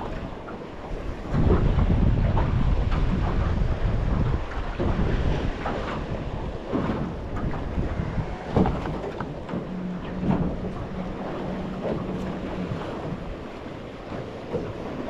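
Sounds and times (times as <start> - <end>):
waves slapping boat hull: 0.0 - 15.0
wind buffeting microphone: 0.0 - 15.0.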